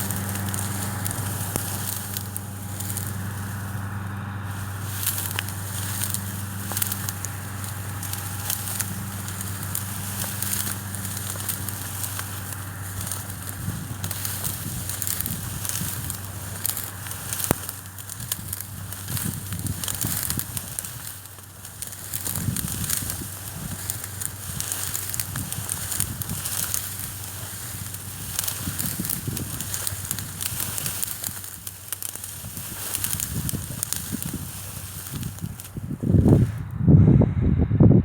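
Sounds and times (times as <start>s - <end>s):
dense crackling: 0.0s - 36.7s
combine harvester droning: 0.0s - 38.0s.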